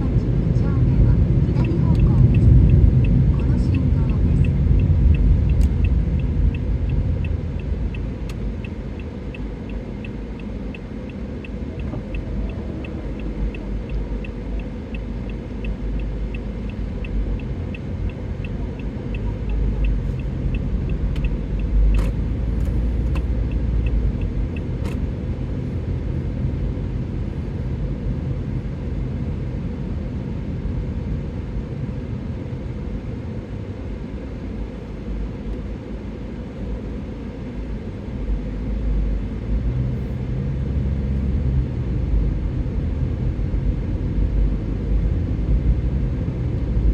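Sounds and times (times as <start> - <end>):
car road and engine rumble: 0.0 - 46.9.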